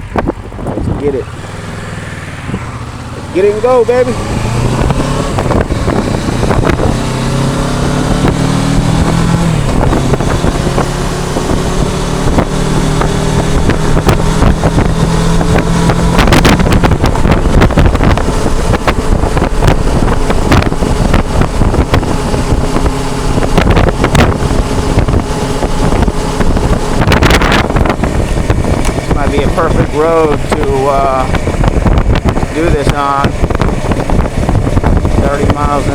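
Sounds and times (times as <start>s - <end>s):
motorcycle engine accelerating: 0.0s - 35.9s
wind buffeting microphone: 0.0s - 35.9s.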